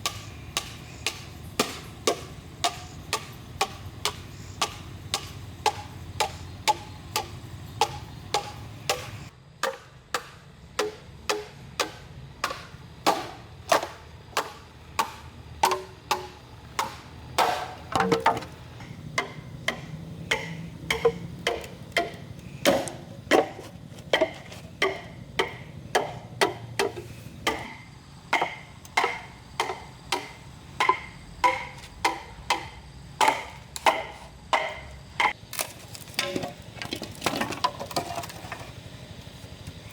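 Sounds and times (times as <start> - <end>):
blade chopping bamboo: 0.0 - 18.6, 19.2 - 38.6.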